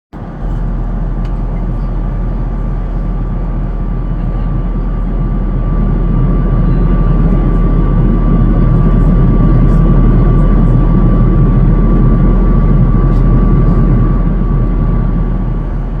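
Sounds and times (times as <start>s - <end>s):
airflow and jet engine drone: 0.2s - 16.0s
faint high hum: 0.2s - 16.0s.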